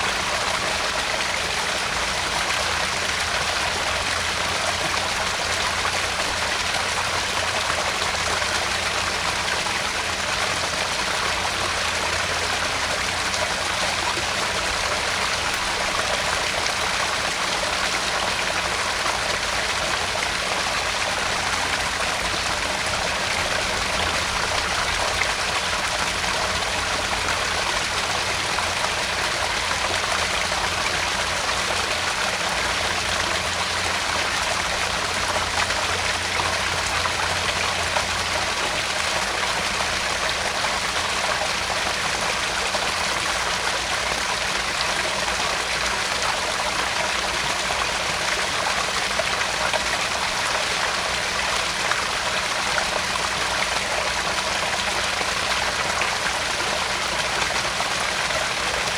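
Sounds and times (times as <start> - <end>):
pond waterfall splashing: 0.0 - 58.9.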